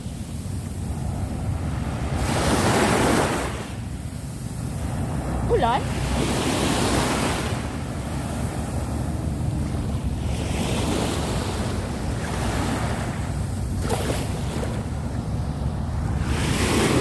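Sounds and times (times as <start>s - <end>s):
sea waves washing onto shore: 0.0s - 17.0s
wind rumble on microphone: 0.0s - 17.0s.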